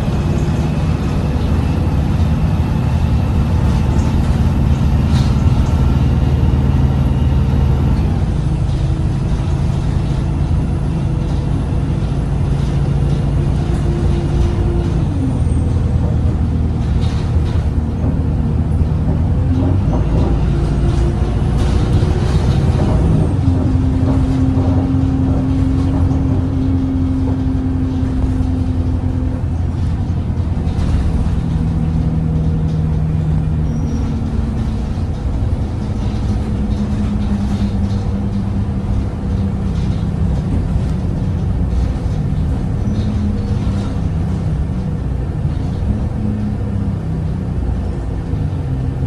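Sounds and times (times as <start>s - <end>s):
bus diesel engine rumble: 0.0s - 49.0s.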